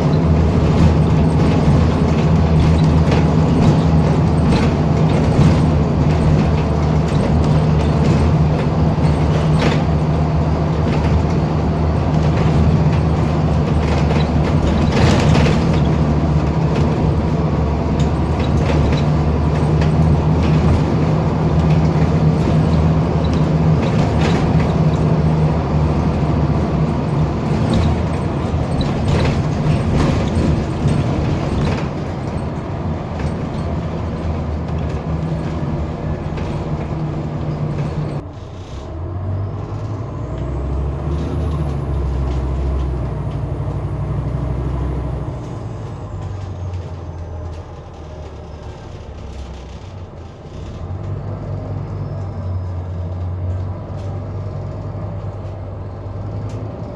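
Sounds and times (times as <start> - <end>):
bus diesel engine at high revs: 0.0 - 56.9.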